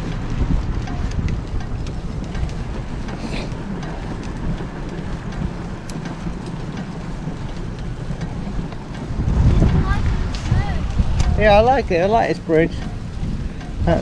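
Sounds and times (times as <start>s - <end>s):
bicycle clicks and rattles: 0.0s - 14.0s
wind rumbling on microphone: 0.0s - 14.0s.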